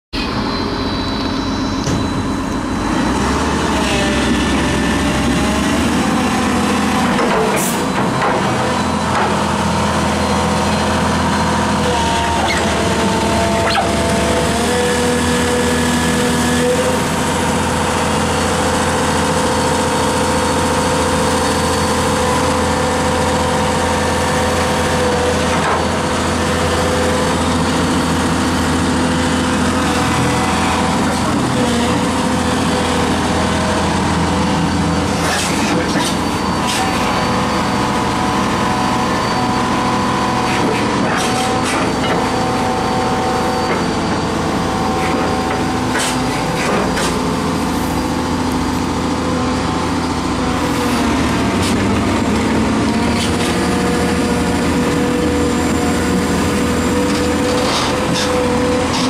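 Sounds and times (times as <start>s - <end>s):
diesel engine drone: 0.1s - 59.0s
hydraulic whining: 0.2s - 59.0s.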